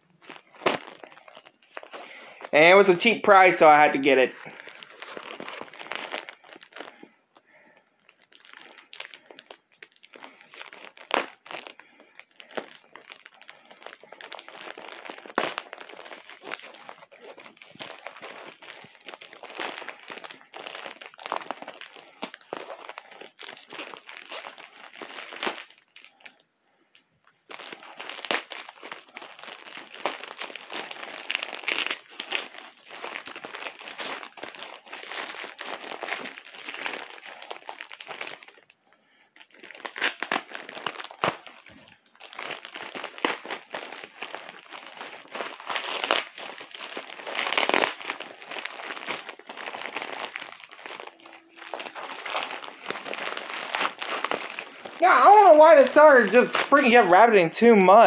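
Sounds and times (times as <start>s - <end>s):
package wrapping crinkling and tearing: 0.0s - 58.0s.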